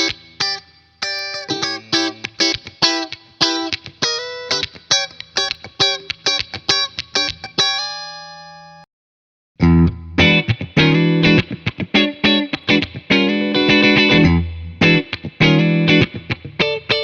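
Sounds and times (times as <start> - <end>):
clean electric guitar playing: 0.0 - 8.8, 9.6 - 17.0.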